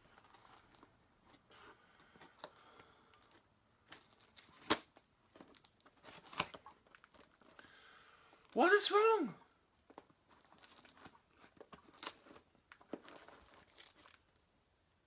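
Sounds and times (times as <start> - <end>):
packaging rustling and tearing: 0.0 - 7.8, 9.8 - 14.4.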